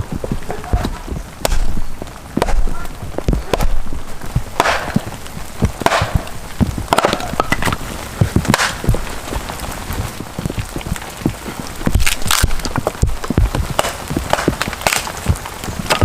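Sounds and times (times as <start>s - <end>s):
rain patter: 0.0s - 16.0s.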